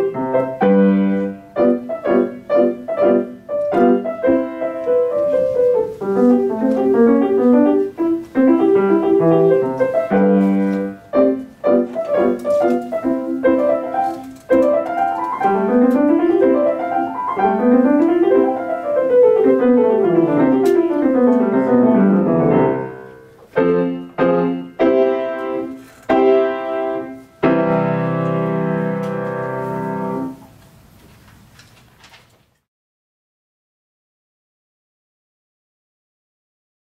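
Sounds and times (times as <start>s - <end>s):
grand piano playing: 0.0s - 30.5s.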